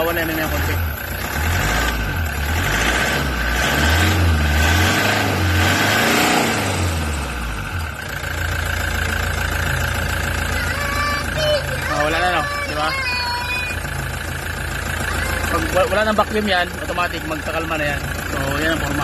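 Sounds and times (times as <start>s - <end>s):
diesel engine running unevenly: 0.0s - 19.0s.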